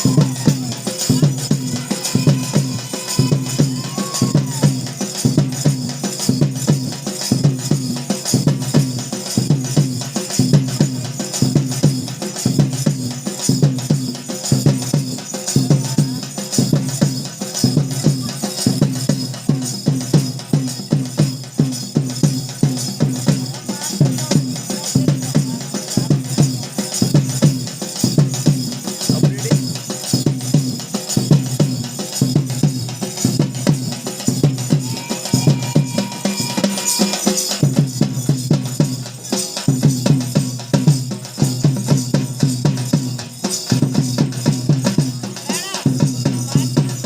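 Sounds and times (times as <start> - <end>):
drums beating fast rhythm: 0.0 - 47.0.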